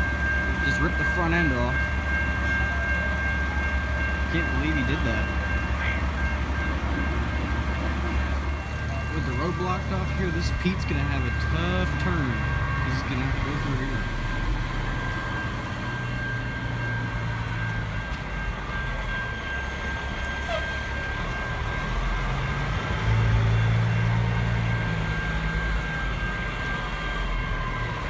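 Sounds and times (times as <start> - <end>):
truck diesel engine humming: 0.0 - 28.0.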